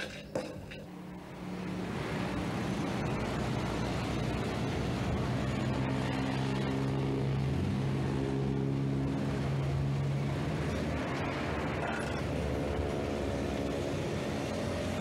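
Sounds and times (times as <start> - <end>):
car approaching: 0.9 - 15.0.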